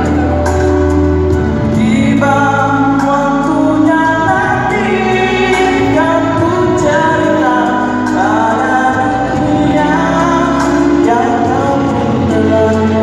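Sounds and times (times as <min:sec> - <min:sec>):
backing music: 0:00.0 - 0:13.0
man singing into a microphone: 0:00.0 - 0:13.0.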